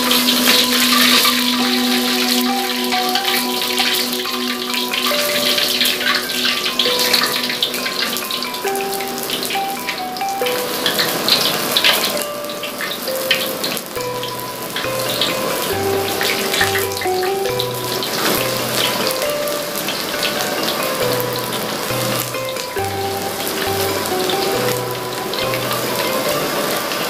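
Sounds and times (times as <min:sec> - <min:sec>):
oil sizzling and crackling: 0:00.0 - 0:27.0
simple background melody: 0:00.0 - 0:27.0.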